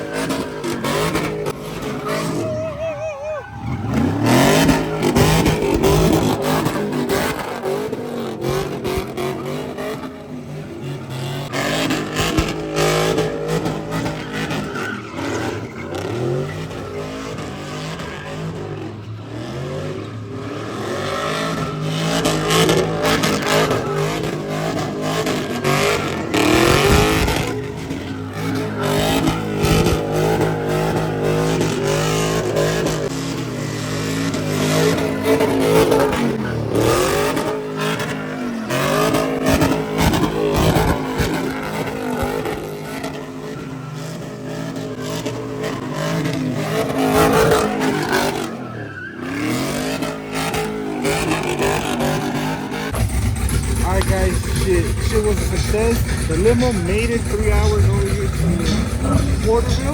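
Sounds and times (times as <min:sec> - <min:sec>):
car engine revving: 0:00.0 - 0:59.9
tyre noise during burnout: 0:00.0 - 0:59.9.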